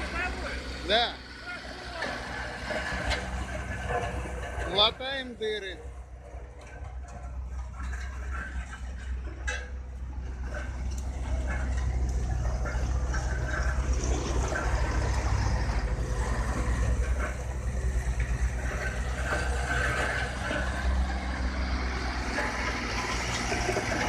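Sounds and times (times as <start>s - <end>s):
heavy vehicle engine rumbling: 0.0s - 24.0s
street traffic noise: 0.0s - 24.0s.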